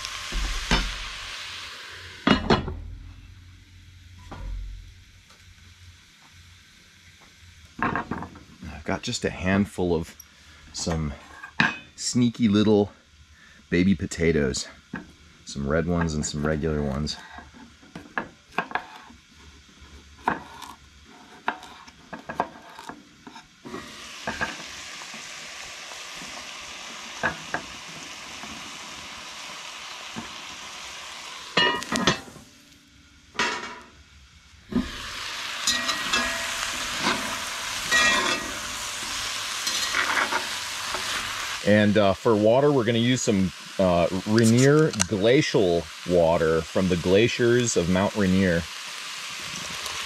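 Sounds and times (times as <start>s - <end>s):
meat and vegetables sizzling: 0.0s - 50.0s.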